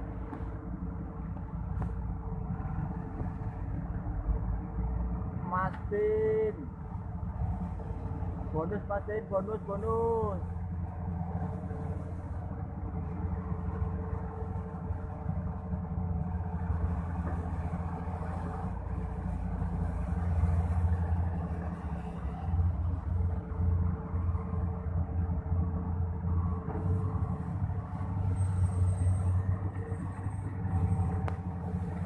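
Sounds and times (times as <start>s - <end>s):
excavator diesel engine rumbling: 0.0s - 32.0s.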